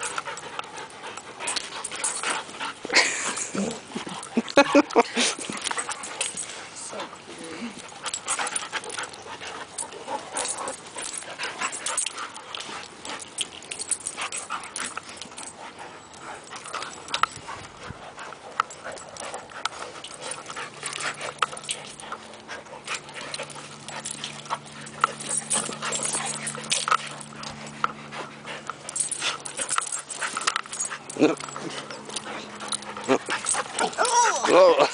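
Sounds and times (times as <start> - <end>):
dogs play-fighting: 0.0 - 34.9
low steady hum: 0.0 - 34.9.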